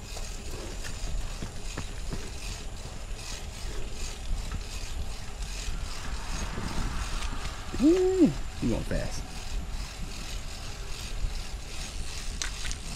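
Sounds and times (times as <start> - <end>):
bicycle freewheel ticking: 0.0 - 12.9
wind rumbling on microphone: 0.0 - 12.9.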